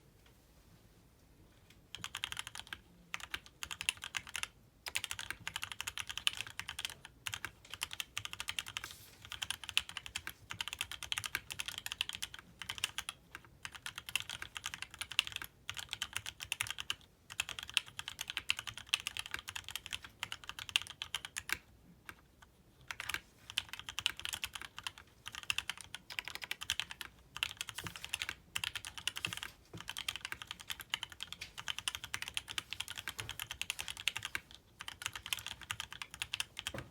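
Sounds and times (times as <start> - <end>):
fast typing on mechanical keyboard: 1.9 - 22.2, 22.9 - 36.9.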